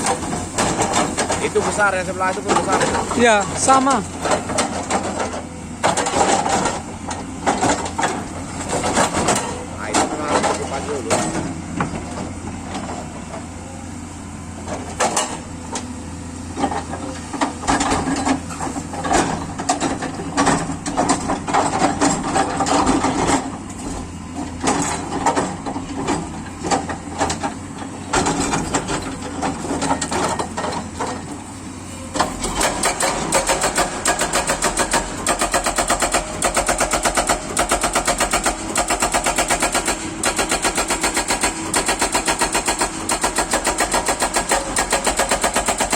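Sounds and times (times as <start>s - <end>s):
excavator engine under load: 0.0s - 45.9s.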